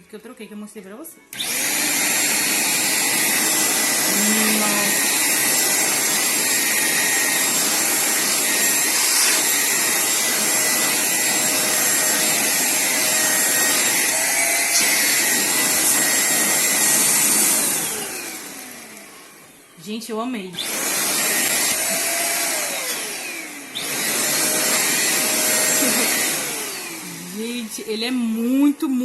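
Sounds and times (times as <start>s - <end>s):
vacuum cleaner running: 1.3s - 29.0s.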